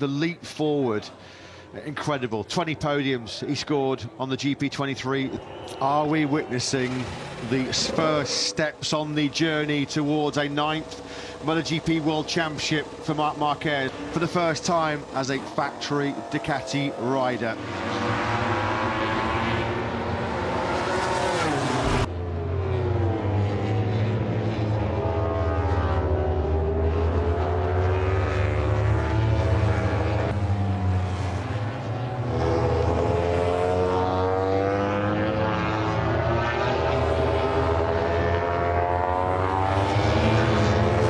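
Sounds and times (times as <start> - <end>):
racing motorcycle engines revving: 5.4 - 41.0.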